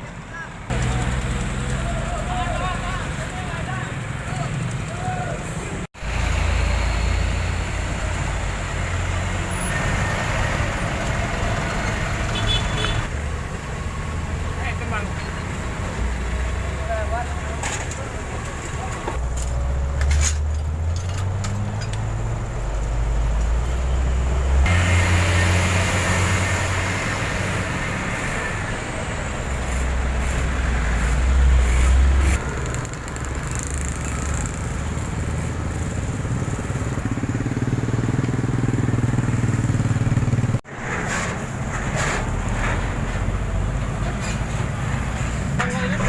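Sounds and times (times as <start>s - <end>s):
street noise: 0.0s - 46.0s
vehicles passing: 0.0s - 46.0s.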